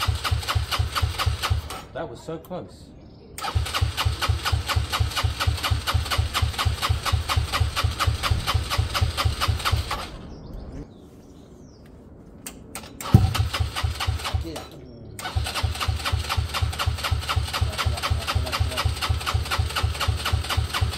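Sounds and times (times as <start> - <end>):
scooter engine cranking: 0.0 - 1.9, 3.4 - 10.2, 12.8 - 20.9.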